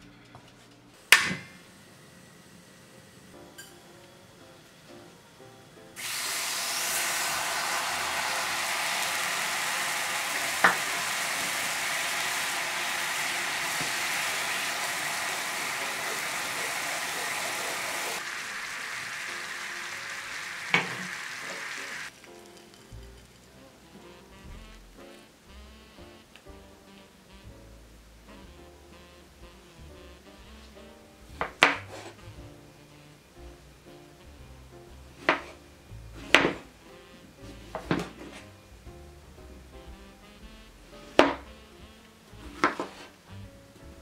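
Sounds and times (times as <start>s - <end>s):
syrup boiling with sizzling hiss: 5.9s - 43.9s.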